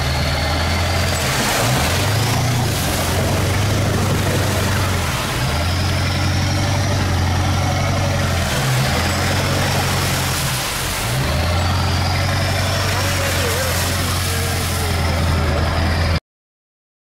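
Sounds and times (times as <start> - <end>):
pickup truck engine running: 0.0 - 16.2
tyre and road noise: 0.0 - 16.2.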